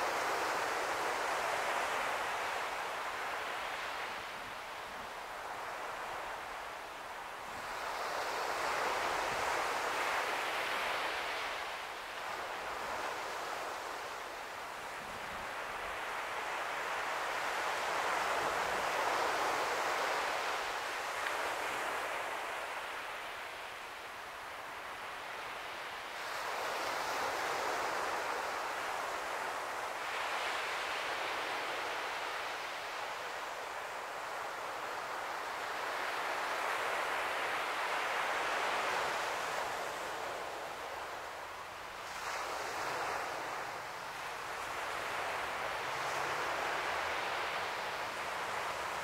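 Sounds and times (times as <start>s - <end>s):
surf breaking on a shore: 0.0s - 49.0s.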